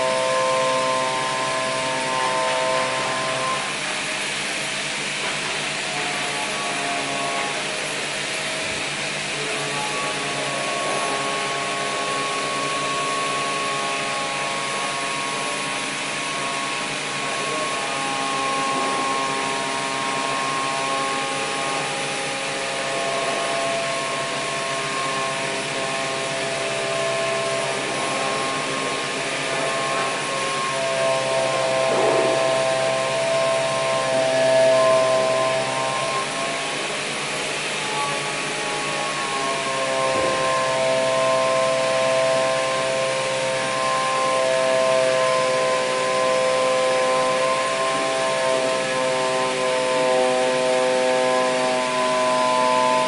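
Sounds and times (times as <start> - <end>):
machine whirring and whining: 0.0 - 53.0.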